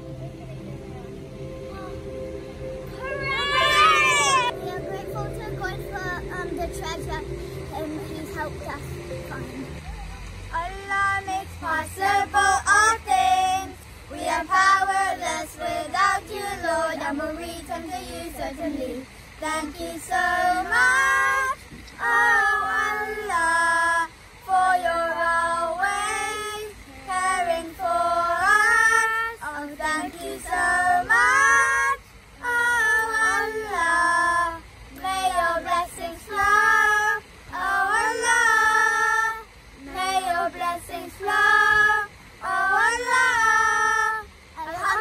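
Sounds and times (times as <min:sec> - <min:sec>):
children singing together: 0:03.0 - 0:09.4, 0:10.6 - 0:45.0.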